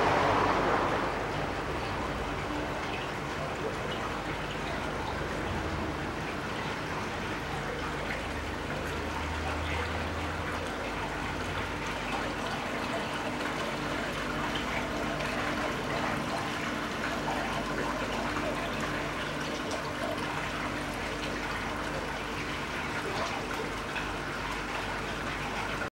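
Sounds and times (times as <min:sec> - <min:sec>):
low steady hum: 0:00.0 - 0:25.9
trickling running water: 0:00.0 - 0:25.9.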